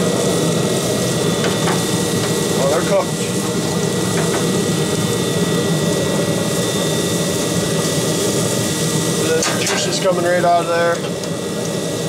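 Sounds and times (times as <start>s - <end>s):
pellet grill fan roaring: 0.0s - 12.0s.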